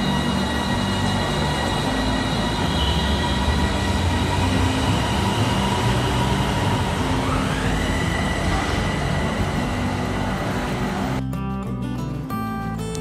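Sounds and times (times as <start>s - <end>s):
electric train rumbling: 0.0s - 11.2s
train motor whine rising: 0.0s - 11.2s.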